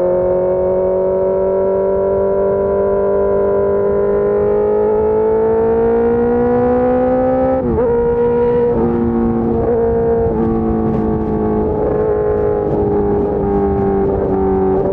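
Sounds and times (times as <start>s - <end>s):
sport bike engine accelerating: 0.0s - 14.9s.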